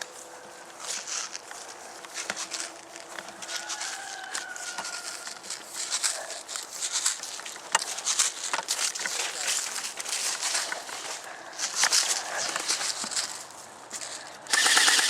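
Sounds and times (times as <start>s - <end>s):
footsteps through dry grass: 0.0s - 14.5s.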